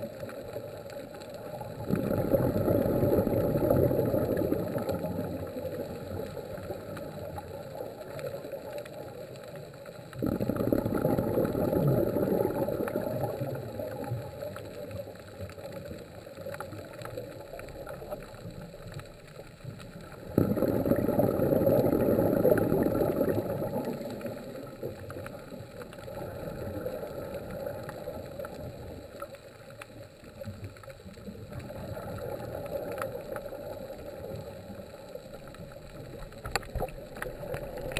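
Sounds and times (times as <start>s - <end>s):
exhaled bubbles bursting: 0.0s - 29.3s, 30.4s - 37.9s.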